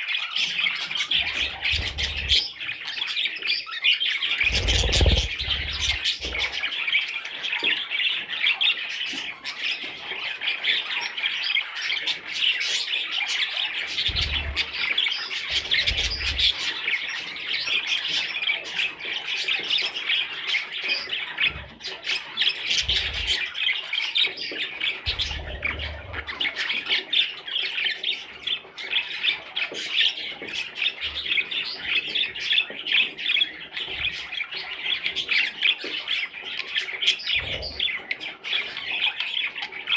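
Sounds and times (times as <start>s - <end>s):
budgerigars chattering: 0.4s - 39.9s.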